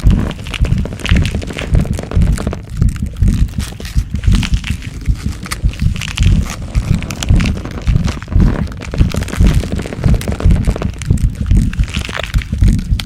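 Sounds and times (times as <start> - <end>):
deep thumps: 0.0 - 13.0
dense cracking and crackling: 0.0 - 13.0.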